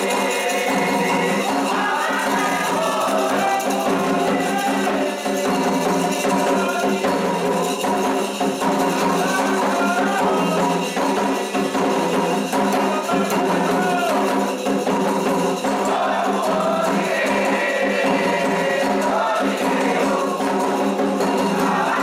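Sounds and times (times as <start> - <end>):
hand drums playing: 0.0 - 22.0
struck bell: 0.0 - 22.0
voices singing: 0.0 - 22.0.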